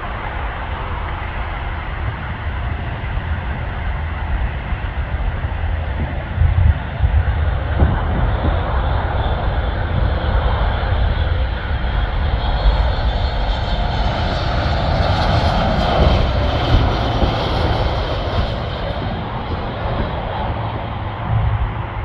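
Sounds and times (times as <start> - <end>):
jet engines landing: 0.0 - 22.0.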